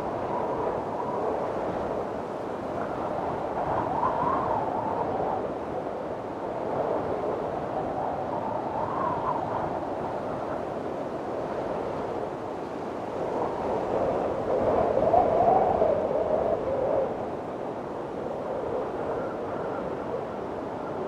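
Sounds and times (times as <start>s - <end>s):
strong wind blowing: 0.0s - 21.0s.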